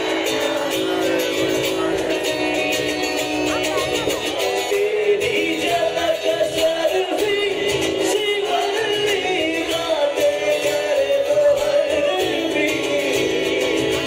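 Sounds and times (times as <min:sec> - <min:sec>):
acoustic guitar: 0:00.0 - 0:14.0
bass guitar: 0:00.0 - 0:14.0
cajon beat: 0:00.0 - 0:14.0
person singing: 0:00.0 - 0:14.0.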